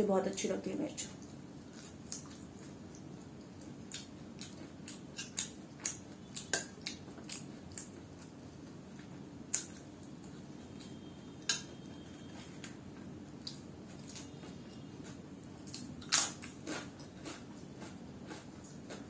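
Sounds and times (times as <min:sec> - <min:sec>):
crunchy chewing: 0:01.2 - 0:19.0.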